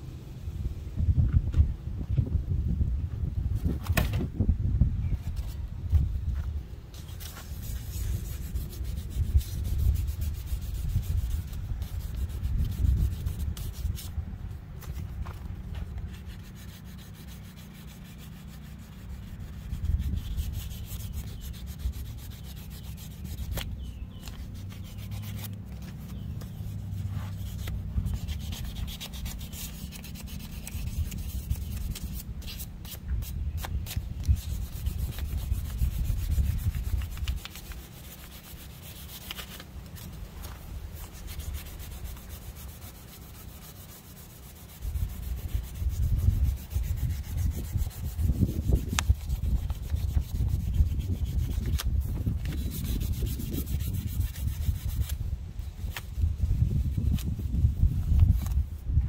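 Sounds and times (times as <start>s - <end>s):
sanding metal by hand: 6.9s - 14.2s, 14.8s - 58.8s.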